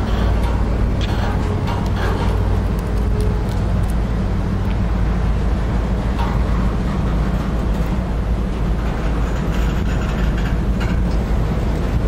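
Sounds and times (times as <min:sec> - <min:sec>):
faint clicks from train: 0:00.0 - 0:04.0, 0:06.1 - 0:12.0
locomotive engine drone: 0:00.0 - 0:12.0.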